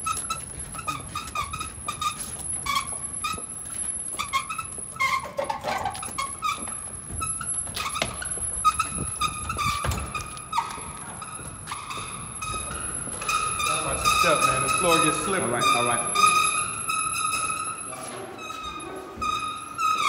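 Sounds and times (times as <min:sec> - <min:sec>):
cart wheels squeaking: 0:00.0 - 0:20.0.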